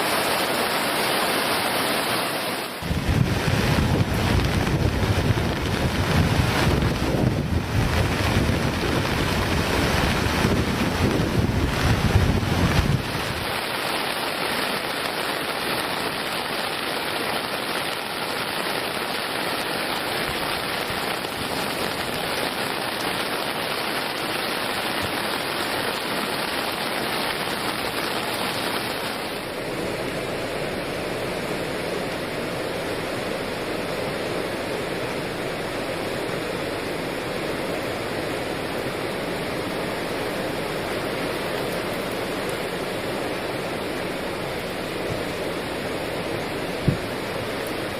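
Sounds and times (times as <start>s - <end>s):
rushing floodwater: 0.0s - 47.9s.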